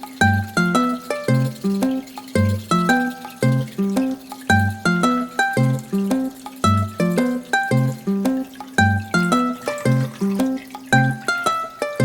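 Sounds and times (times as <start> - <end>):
plucked melody over bass line: 0.2 - 12.0.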